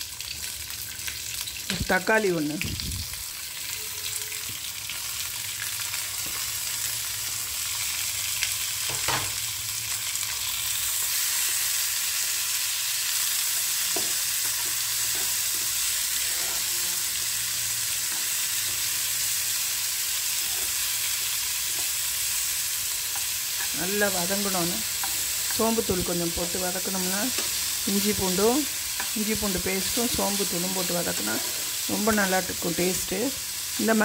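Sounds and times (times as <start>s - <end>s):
vegetables sizzling in hot oil: 0.0s - 34.0s.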